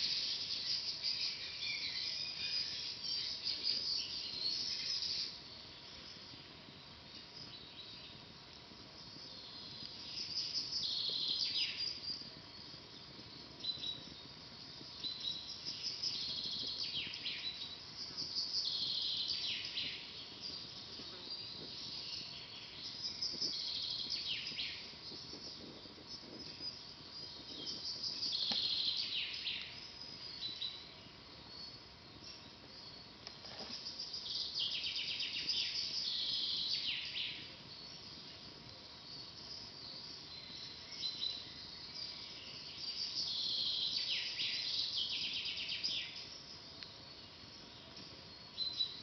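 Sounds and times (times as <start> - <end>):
campfire crackling: 2.8 - 42.7.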